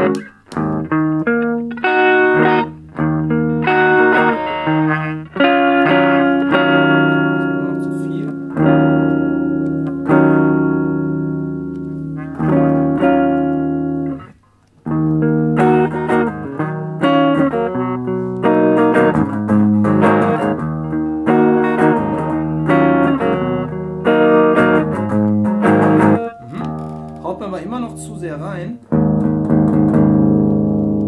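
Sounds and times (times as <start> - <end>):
electric guitar chords: 0.0 - 31.0.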